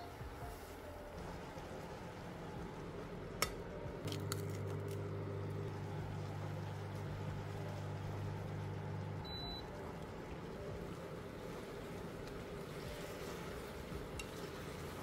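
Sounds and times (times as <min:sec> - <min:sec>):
appliance humming: 0:00.0 - 0:15.0.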